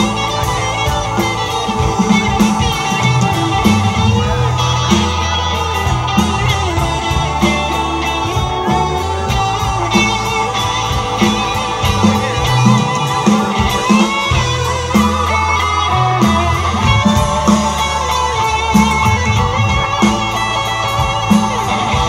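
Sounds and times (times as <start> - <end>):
drum kit: 0.0 - 22.0
electric bass line: 0.0 - 22.0
electric guitar: 0.0 - 22.0
keyboards: 0.0 - 22.0.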